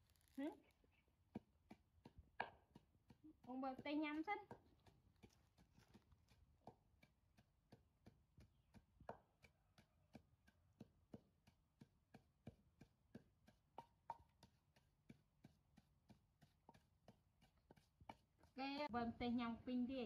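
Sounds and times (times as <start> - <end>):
pestle pounding in wooden mortar: 1.2 - 18.9.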